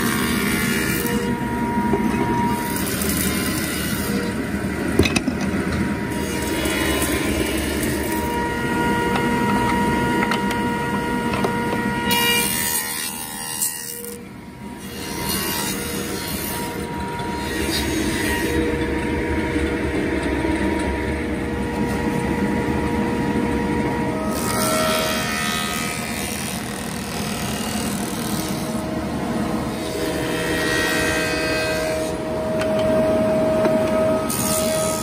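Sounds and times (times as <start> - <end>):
table saw whining: 0.0 - 35.0.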